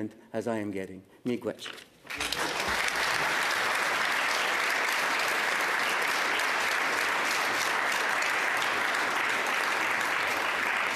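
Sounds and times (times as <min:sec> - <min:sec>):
crowd applause: 0:02.1 - 0:10.9.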